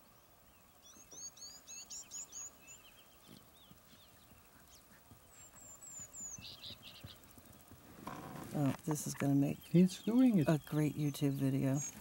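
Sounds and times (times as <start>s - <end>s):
faint open-air background noise: 0.0s - 12.0s
songbird singing: 0.0s - 12.0s.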